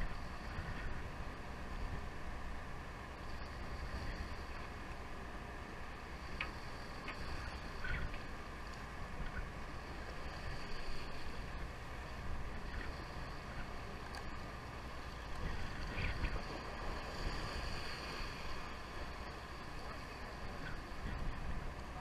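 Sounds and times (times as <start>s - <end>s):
wind noise on microphone: 0.0s - 4.9s, 6.0s - 22.0s
low rumble: 0.0s - 22.0s
water washing along boat hull: 0.0s - 22.0s.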